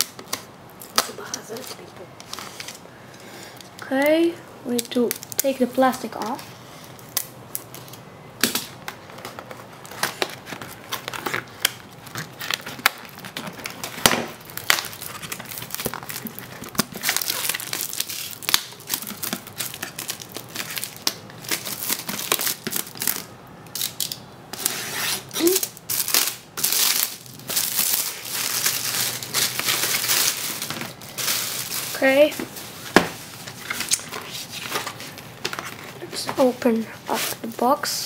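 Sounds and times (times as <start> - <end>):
plastic shrink wrap tearing: 4.7 - 36.5.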